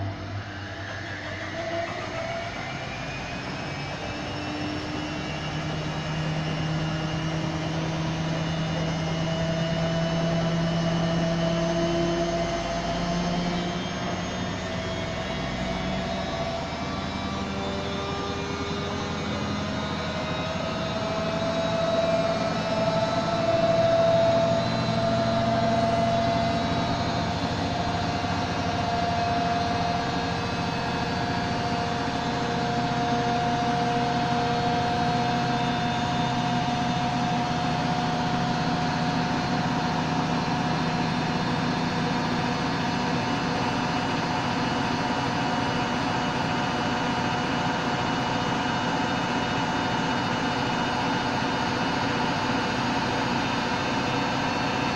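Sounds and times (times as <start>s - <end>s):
washing machine spinning: 0.0s - 54.9s.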